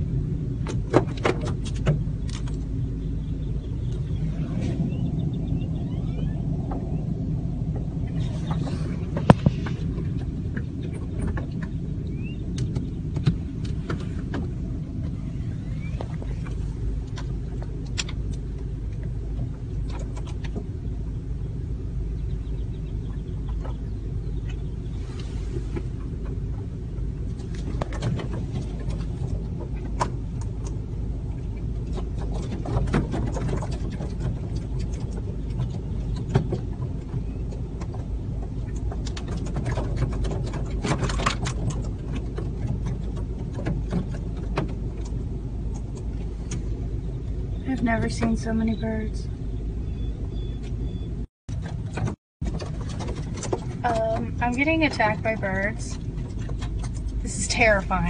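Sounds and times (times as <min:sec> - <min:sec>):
car rumble inside cabin: 0:00.0 - 0:58.0.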